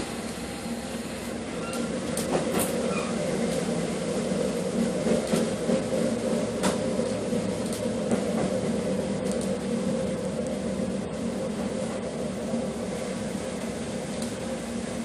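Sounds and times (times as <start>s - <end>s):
train car running hum: 0.0s - 15.0s.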